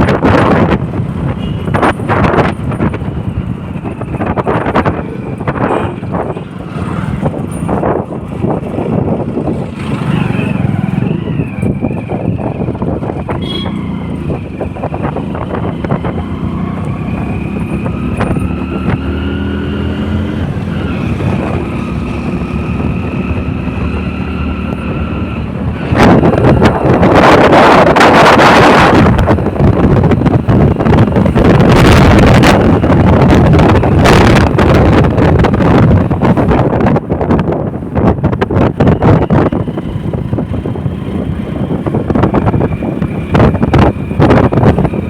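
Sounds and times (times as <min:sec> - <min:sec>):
motorcycle engine accelerating: 0:00.0 - 0:45.0
wind buffeting microphone: 0:00.0 - 0:45.0.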